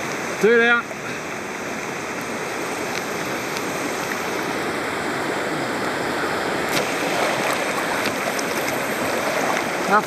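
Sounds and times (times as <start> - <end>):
river rapids rushing: 0.0 - 10.0.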